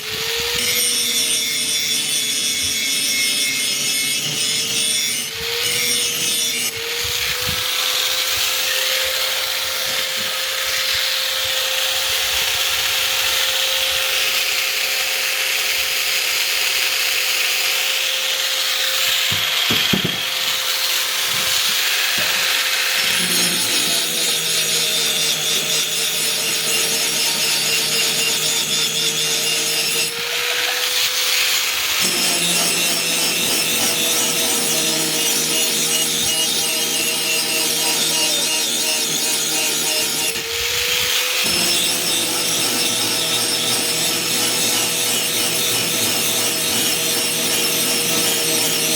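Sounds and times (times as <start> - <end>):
grinder motor whine: 5.2 - 48.9.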